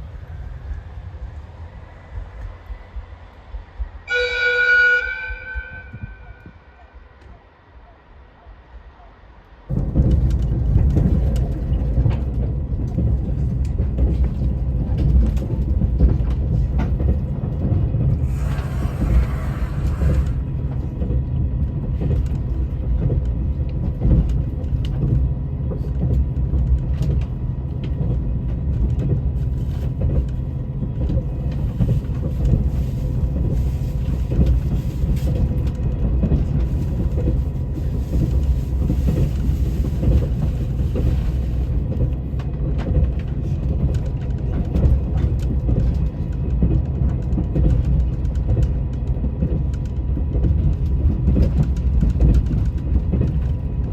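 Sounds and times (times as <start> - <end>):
train rumbling: 0.0 - 53.9
wheel and carriage rattles: 9.7 - 53.9.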